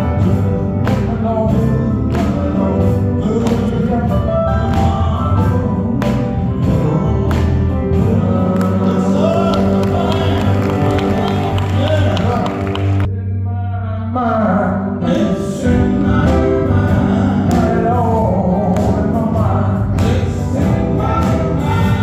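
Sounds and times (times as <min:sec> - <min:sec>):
electric guitar with beat: 0:00.0 - 0:13.1, 0:15.7 - 0:22.0
man singing: 0:00.0 - 0:22.0.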